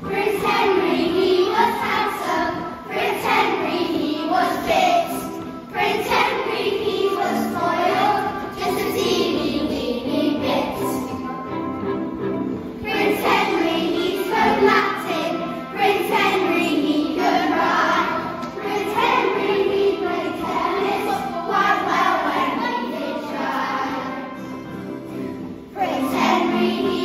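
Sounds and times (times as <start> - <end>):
children singing in chorus: 0.0 - 11.2, 12.8 - 24.8, 25.7 - 27.0
accompanying music: 0.0 - 27.0.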